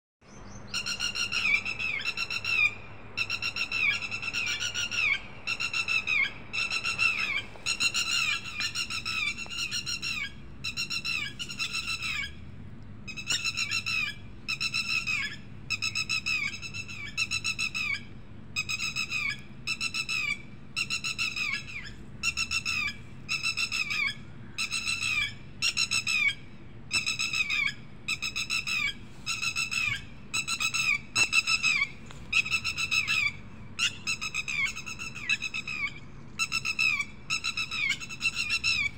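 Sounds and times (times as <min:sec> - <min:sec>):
lapwing whistled calls: 0:00.3 - 0:12.4, 0:13.1 - 0:38.9.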